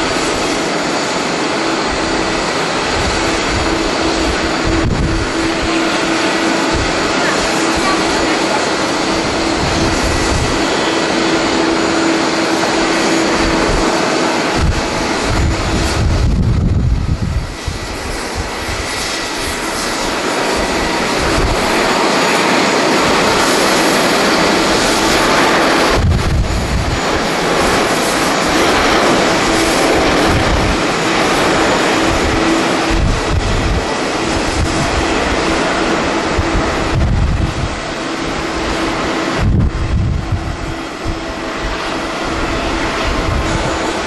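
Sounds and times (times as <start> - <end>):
jet engines at takeoff thrust: 0.0 - 44.0
wind buffeting microphone: 0.0 - 44.0.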